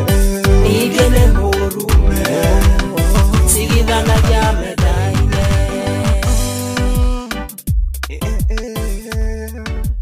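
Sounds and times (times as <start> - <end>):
deep bass drum hits: 0.5 - 8.6.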